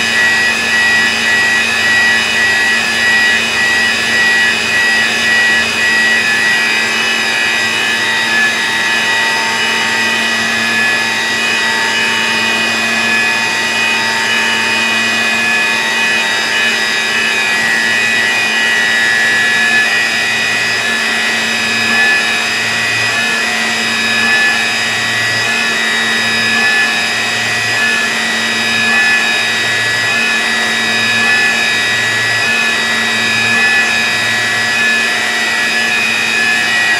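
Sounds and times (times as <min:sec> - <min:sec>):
mill machining whine: 0:00.0 - 0:36.9.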